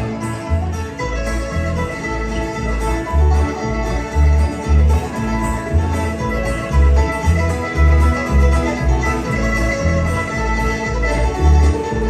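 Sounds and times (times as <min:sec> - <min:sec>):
acoustic guitar: 0:00.0 - 0:12.0
banjo: 0:00.0 - 0:12.0
bass pulsing: 0:00.0 - 0:12.0
fiddle lead: 0:00.0 - 0:12.0.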